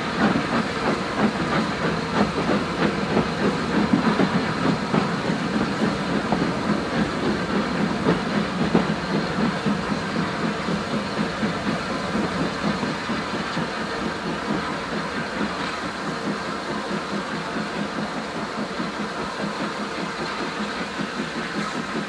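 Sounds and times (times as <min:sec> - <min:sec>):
train coaches rumbling and clattering: 0:00.0 - 0:22.0.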